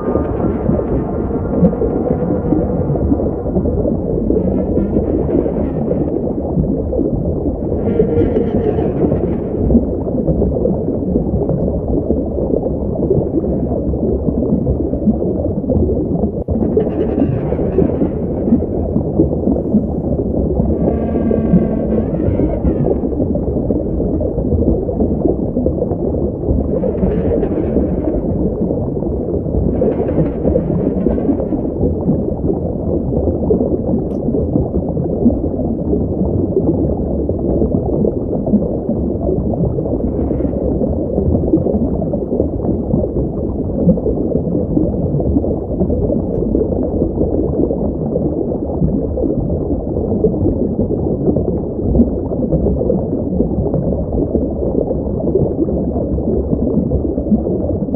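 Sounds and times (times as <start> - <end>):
low rumbling drone: 0.0 - 47.3.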